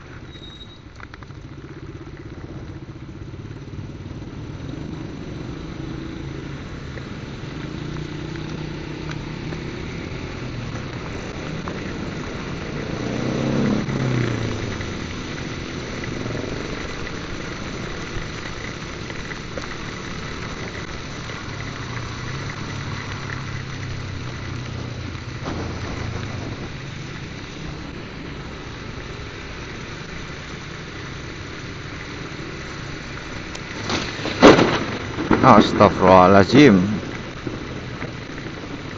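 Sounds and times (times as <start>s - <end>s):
motorcycle engine: 0.0s - 35.5s
rain hissing on wet road: 0.0s - 38.9s.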